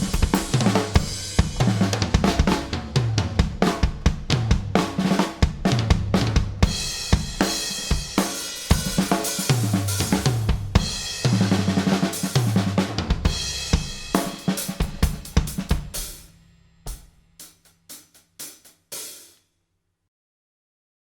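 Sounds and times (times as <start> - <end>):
rock drum kit: 0.0 - 19.4.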